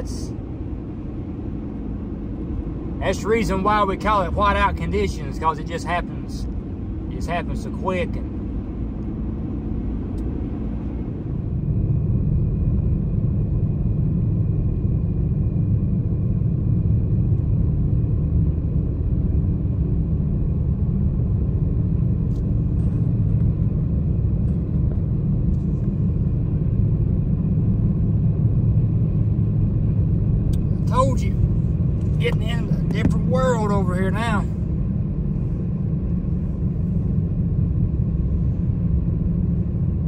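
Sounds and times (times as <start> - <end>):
road and engine rumble: 0.0 - 40.0.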